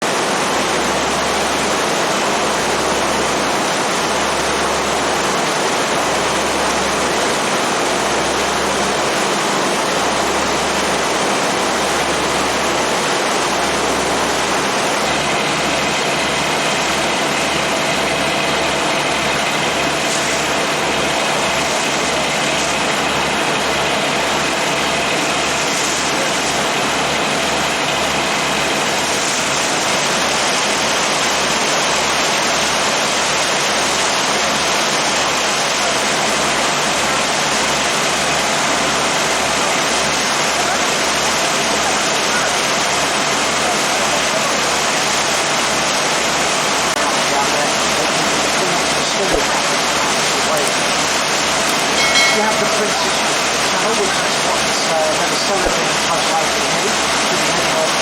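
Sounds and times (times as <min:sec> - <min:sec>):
boat engine throbbing: 0:00.0 - 0:58.0
wind and water rushing: 0:00.0 - 0:58.0.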